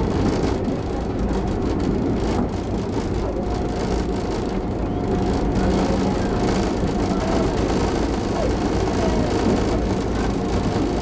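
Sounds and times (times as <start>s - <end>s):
faint steady whine: 0.0s - 11.0s
train coach rumbling on rails: 0.0s - 11.0s.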